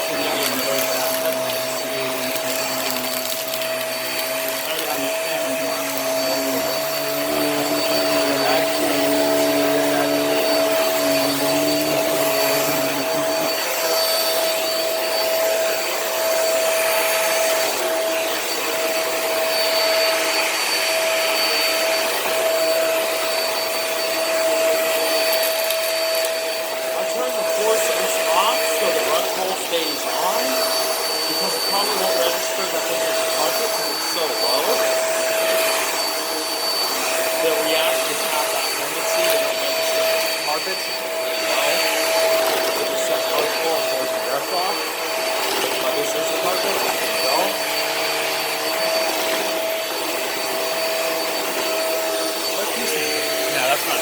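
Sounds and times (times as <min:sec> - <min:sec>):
vacuum cleaner running over carpet: 0:00.0 - 0:54.0.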